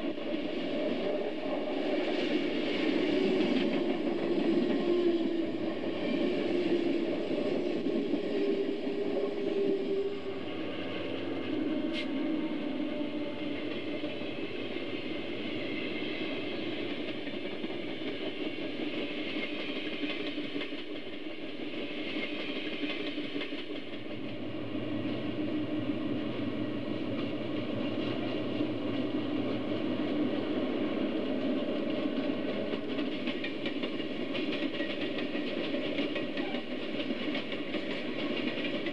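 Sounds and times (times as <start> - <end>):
wheels rumbling on rails: 0.0 - 38.9.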